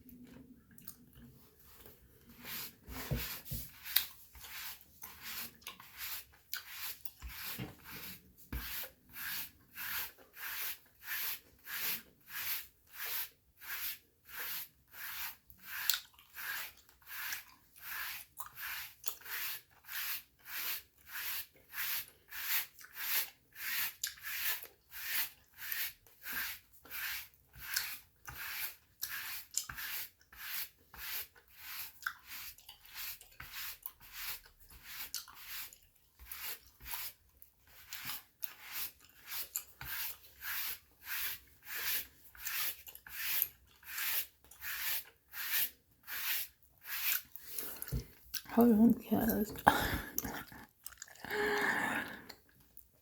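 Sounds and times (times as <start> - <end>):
dry brush stroking skin: 1.5 - 50.6.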